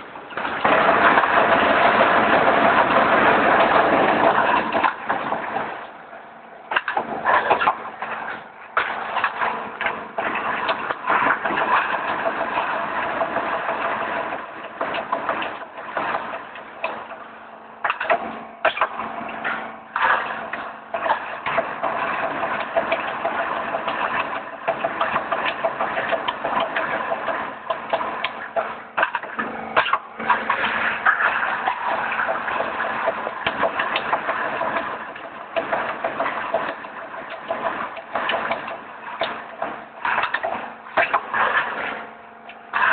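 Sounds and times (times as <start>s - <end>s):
machine hum: 0.0s - 42.9s
sharp knocks and clicks: 6.7s - 42.9s.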